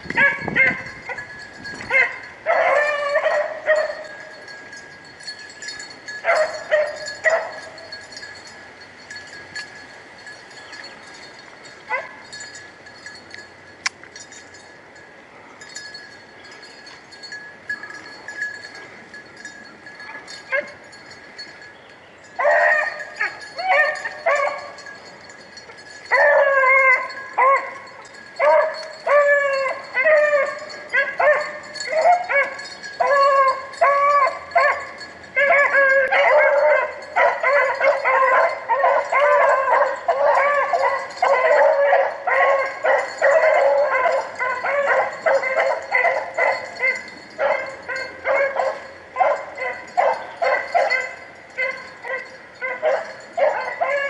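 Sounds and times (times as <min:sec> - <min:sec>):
hounds baying: 0:00.0 - 0:13.4, 0:16.8 - 0:21.7, 0:22.3 - 0:54.0.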